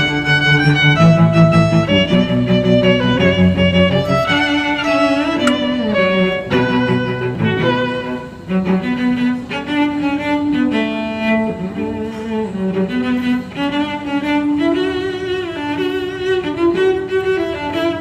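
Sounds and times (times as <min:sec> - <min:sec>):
bowed strings melody: 0:00.0 - 0:18.0.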